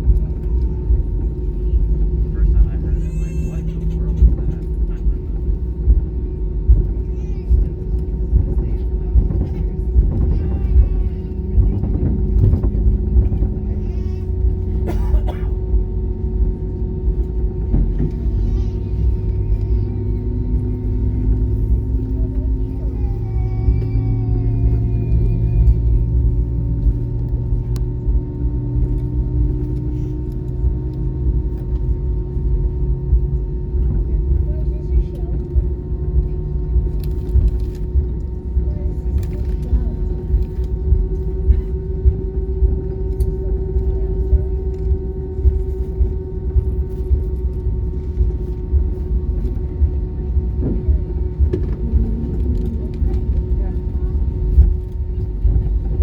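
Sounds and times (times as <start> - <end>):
aircraft engines rumbling: 0.0 - 56.0
constant cabin hum: 0.0 - 56.0.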